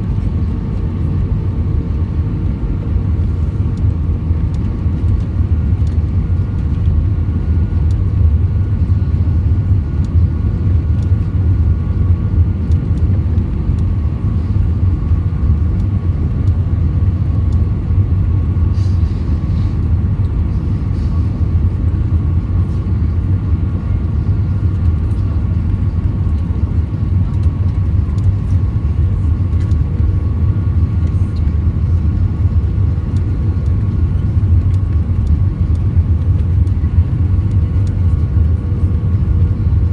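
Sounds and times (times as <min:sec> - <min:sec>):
airplane cabin rumble: 0:00.0 - 0:39.9
faint engine tones: 0:00.0 - 0:39.9.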